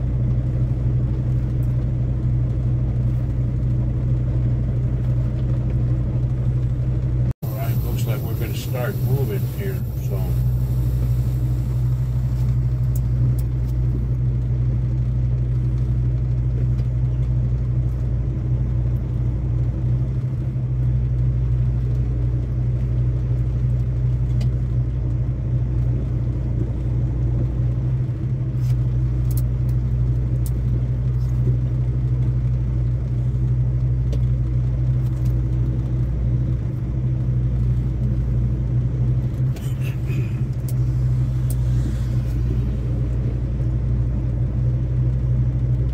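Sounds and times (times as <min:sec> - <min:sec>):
road rumble: 0:00.0 - 0:45.9
truck engine drone: 0:00.0 - 0:45.9.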